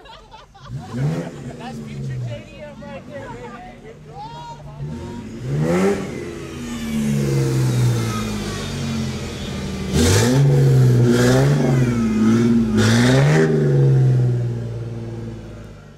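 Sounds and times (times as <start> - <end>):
car engine revving: 0.5 - 15.9.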